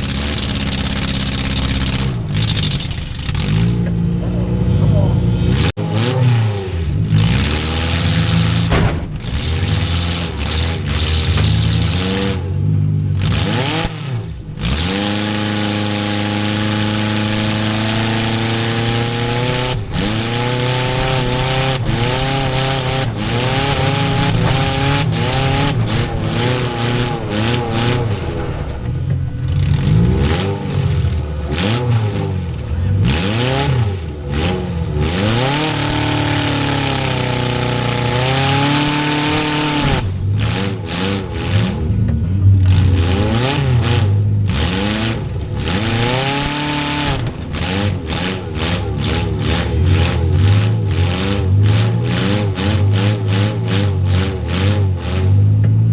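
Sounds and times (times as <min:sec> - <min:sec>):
car engines revving hard: 0:00.0 - 0:55.9
low engine drone: 0:00.0 - 0:55.9.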